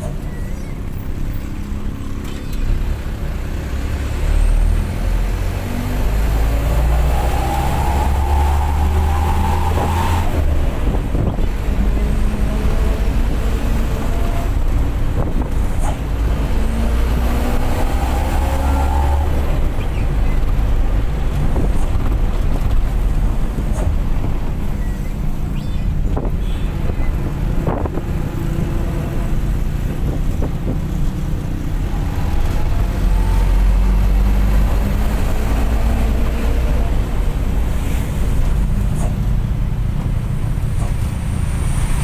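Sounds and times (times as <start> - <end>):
bus diesel engine accelerating: 0.0 - 42.0.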